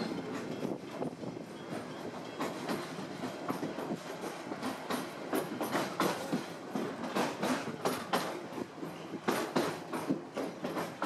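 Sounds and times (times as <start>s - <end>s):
train rumbling: 0.0s - 11.0s
wheels clacking and rattling: 0.0s - 11.0s.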